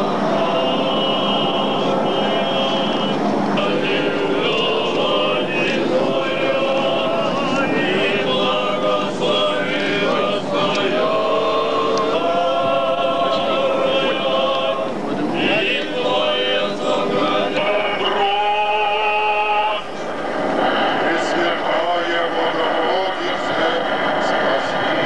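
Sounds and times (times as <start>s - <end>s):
choir singing liturgical chant: 0.0s - 25.0s.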